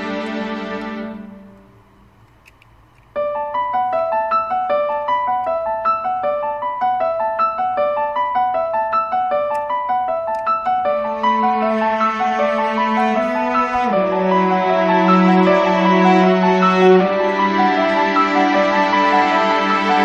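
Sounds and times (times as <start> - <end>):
keyboard playing repeating run: 3.2 - 20.0.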